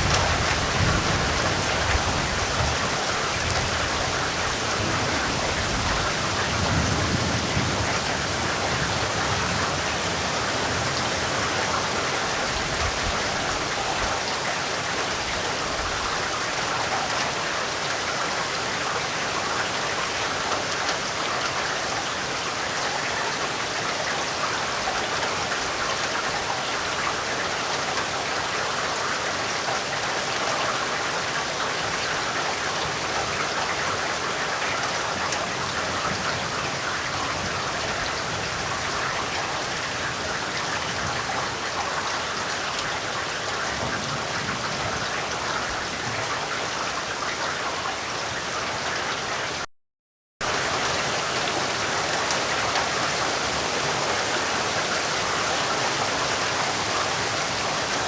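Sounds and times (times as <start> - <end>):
heavy rain pattering: 0.0 - 49.7, 50.4 - 58.0.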